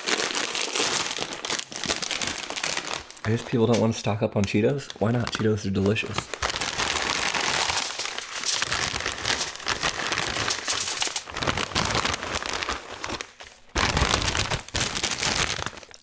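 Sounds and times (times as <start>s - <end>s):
plastic snack bag crinkling: 0.0s - 16.0s.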